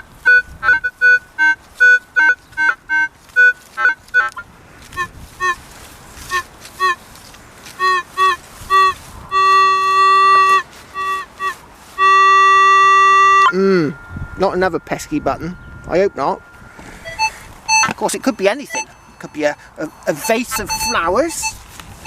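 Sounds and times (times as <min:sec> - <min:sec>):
metal detector beeping tones: 0:00.0 - 0:04.4, 0:05.0 - 0:05.6, 0:06.3 - 0:07.0, 0:07.8 - 0:21.6.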